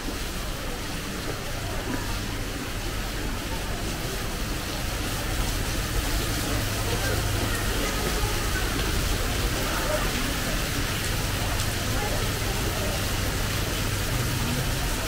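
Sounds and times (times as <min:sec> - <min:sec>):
heavy rain hissing: 0:00.0 - 0:15.0
low rumble of road traffic: 0:00.0 - 0:15.0.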